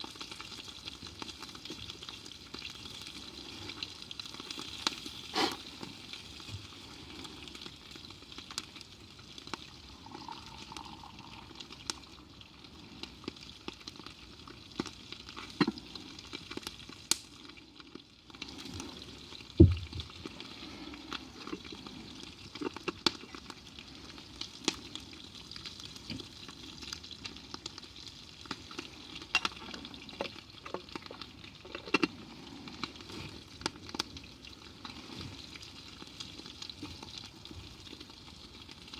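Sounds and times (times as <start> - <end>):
fire crackles and clicks: 0.0 - 9.8, 10.7 - 12.2, 12.8 - 38.9
food sizzling over fire: 0.0 - 38.9.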